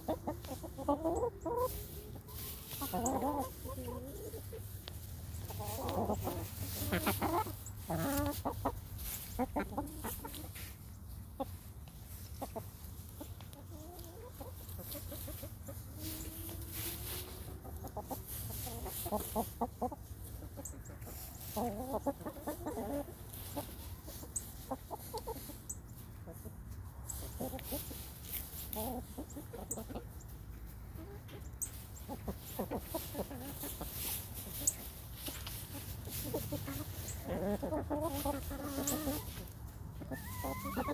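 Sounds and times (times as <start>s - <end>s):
chickens clucking: 0.0s - 40.9s
scratching and pecking in straw: 0.0s - 40.9s.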